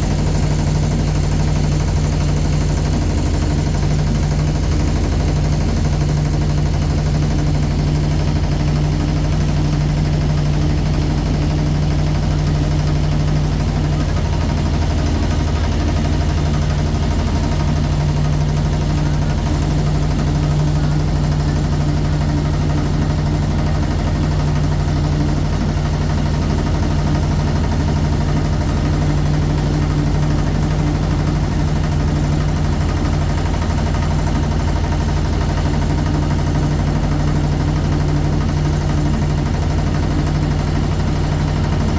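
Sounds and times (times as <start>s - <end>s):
motorboat engine droning: 0.0s - 41.9s.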